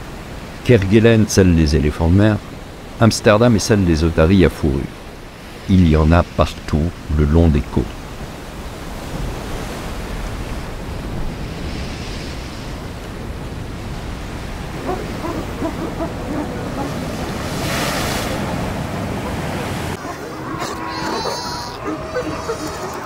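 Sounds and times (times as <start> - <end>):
surf washing on shore: 0.0 - 23.0.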